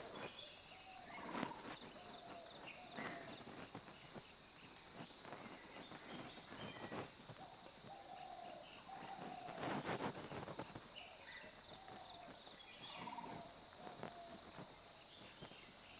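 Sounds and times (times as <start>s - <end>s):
birds calling: 0.0s - 15.9s
pulsing insect trill: 0.0s - 15.9s.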